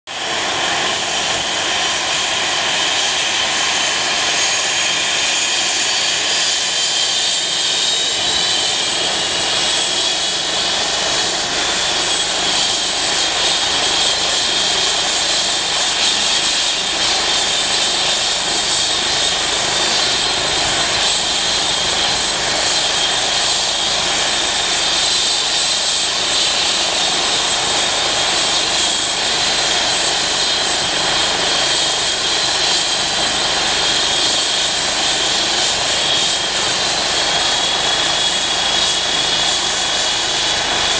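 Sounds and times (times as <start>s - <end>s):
helicopter turbine whine: 0.1s - 40.9s.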